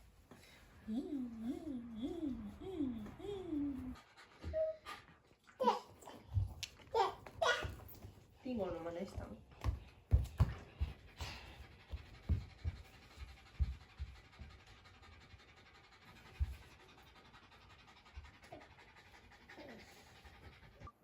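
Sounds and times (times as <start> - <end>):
dog panting: 0.4 - 21.0.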